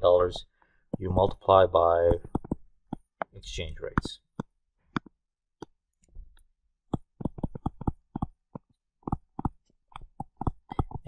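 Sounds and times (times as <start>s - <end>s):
stylus tapping on tablet screen: 2.0s - 11.0s.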